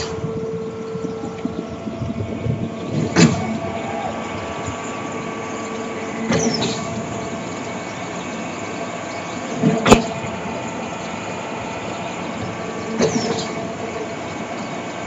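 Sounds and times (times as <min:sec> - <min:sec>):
concrete pump humming: 0:00.0 - 0:15.0.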